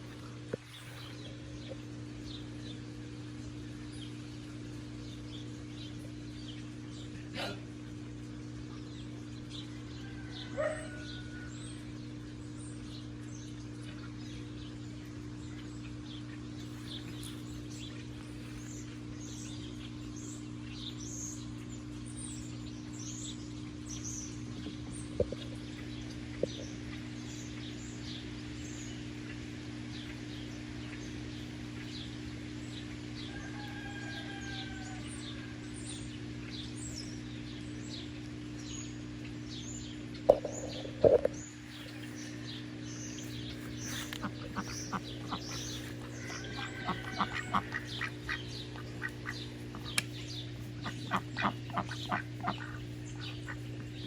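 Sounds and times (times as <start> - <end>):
small birds chirping: 0.0 - 7.6, 8.3 - 33.4, 34.7 - 54.0
steady low hum: 0.0 - 54.0.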